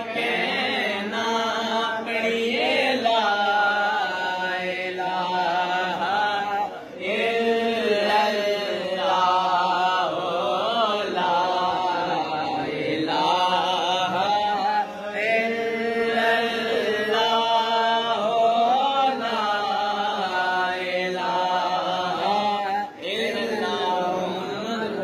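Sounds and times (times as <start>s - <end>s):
young man chanting a hymn: 0.0s - 25.0s.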